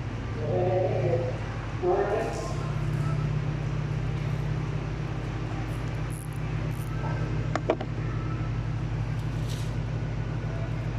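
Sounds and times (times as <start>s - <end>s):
low machinery hum: 0.0s - 10.9s.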